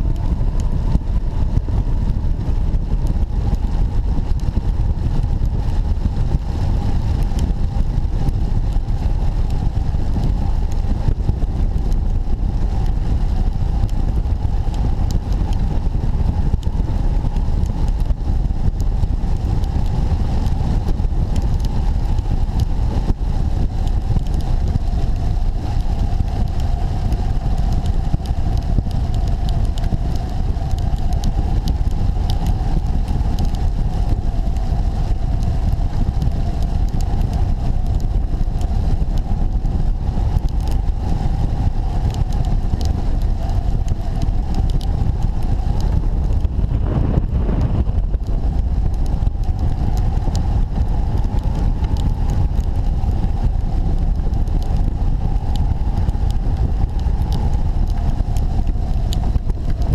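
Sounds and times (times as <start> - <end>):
rain ticking on glider: 0.0 - 59.9
steady droning tone: 0.0 - 59.9
wind rushing over camera: 0.0 - 59.9.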